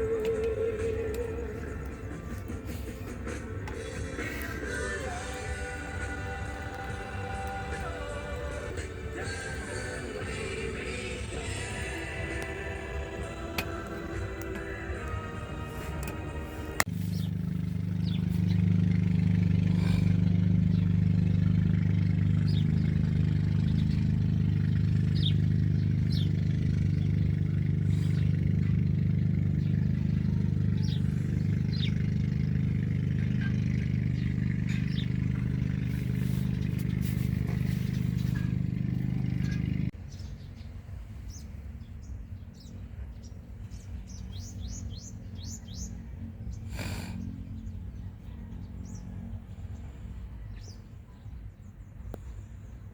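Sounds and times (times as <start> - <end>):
steady low hum: 0.0 - 49.1
small birds chirping: 0.0 - 52.9.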